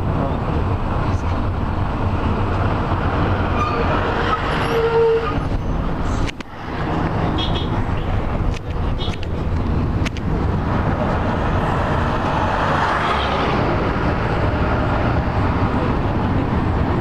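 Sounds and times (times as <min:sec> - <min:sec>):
vehicle low rumble: 0:00.0 - 0:17.0.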